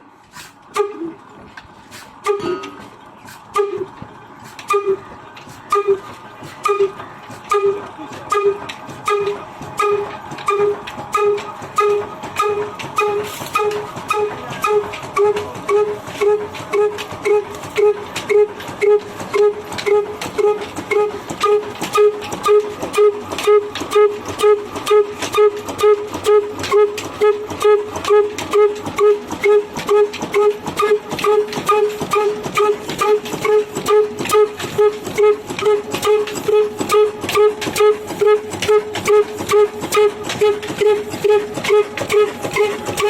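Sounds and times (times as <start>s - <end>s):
diesel engine running: 0.6s - 43.0s.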